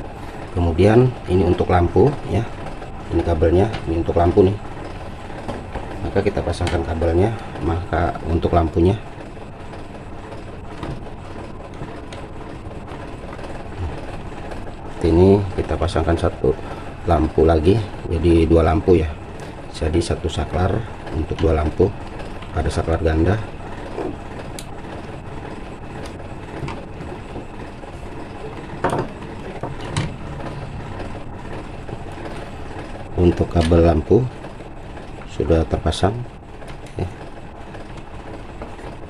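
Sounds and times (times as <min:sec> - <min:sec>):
steady background noise: 0:00.0 - 0:39.0
wires and plastic rustling: 0:00.0 - 0:39.0.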